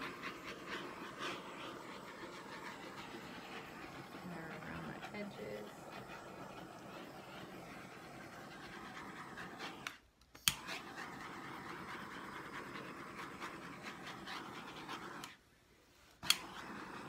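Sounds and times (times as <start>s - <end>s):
torch flame hissing: 0.0s - 15.4s, 16.2s - 17.0s.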